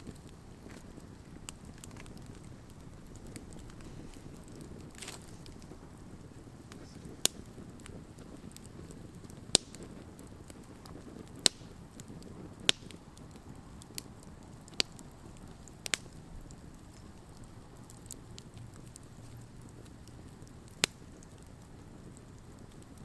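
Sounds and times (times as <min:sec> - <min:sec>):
burning wood popping: 0:00.0 - 0:23.0
campfire flame rushing: 0:00.0 - 0:23.0.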